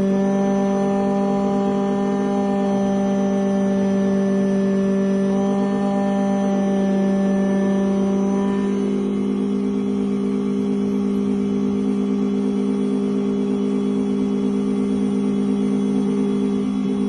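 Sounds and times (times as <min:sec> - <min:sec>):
key-cutting machine motor running: 0:00.0 - 0:17.0.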